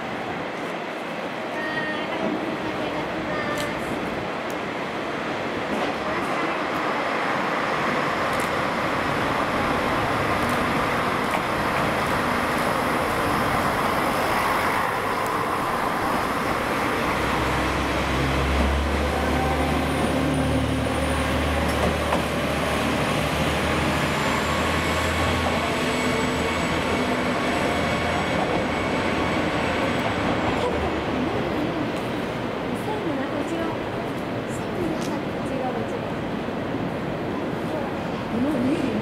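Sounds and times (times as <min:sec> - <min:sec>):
diesel railcar engine drone: 0:00.0 - 0:39.0.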